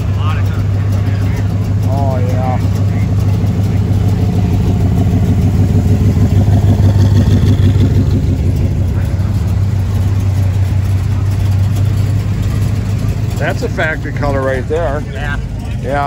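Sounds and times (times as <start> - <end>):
car engines exhaust rumble: 0.0 - 16.0.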